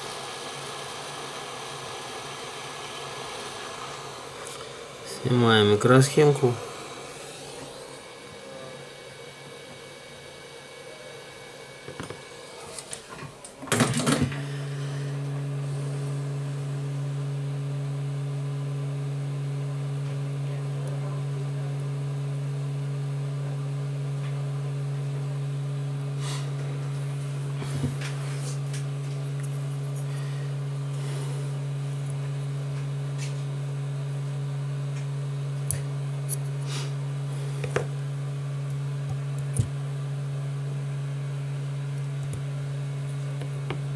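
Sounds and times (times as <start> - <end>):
hot-air rework station blower humming: 0.0 - 43.9.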